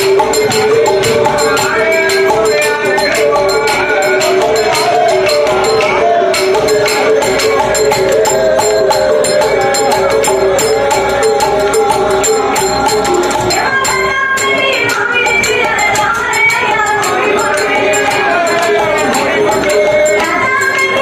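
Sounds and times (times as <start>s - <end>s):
jingling hand percussion: 0.0s - 21.0s.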